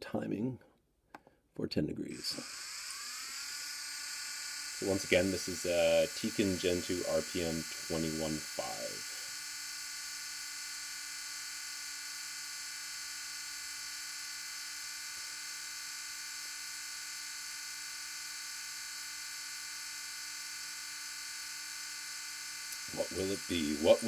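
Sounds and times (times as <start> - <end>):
electric motor high-pitched whine: 2.1 - 24.0.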